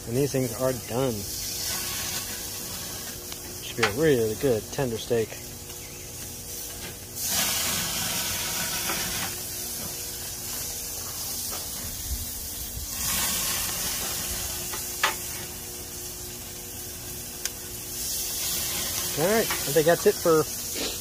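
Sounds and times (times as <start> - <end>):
steaks sizzling on a grill: 0.0 - 21.0.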